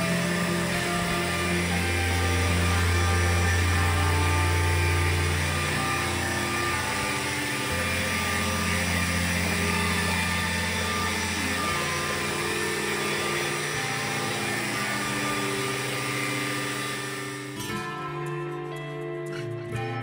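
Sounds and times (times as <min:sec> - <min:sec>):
vacuum cleaner motor whine: 0:00.0 - 0:18.2.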